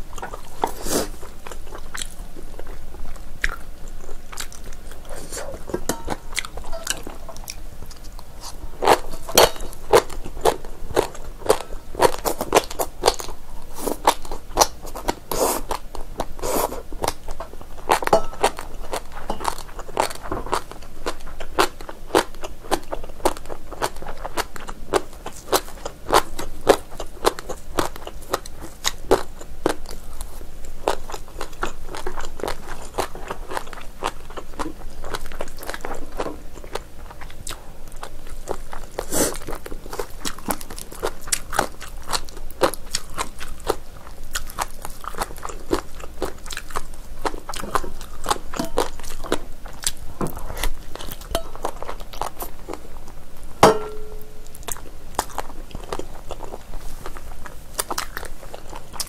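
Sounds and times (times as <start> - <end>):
wet chewing and smacking: 0.0 - 59.0.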